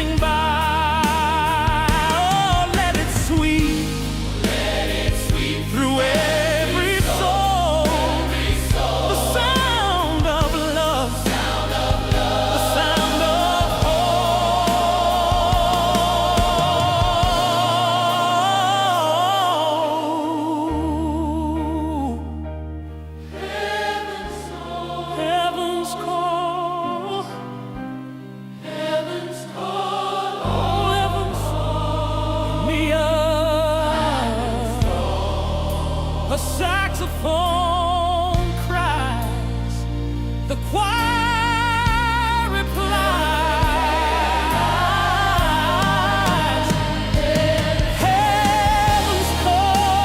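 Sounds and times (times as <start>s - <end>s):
gospel choir singing: 0.0s - 22.3s, 23.2s - 50.0s
bass accompaniment: 0.0s - 26.4s, 30.4s - 50.0s.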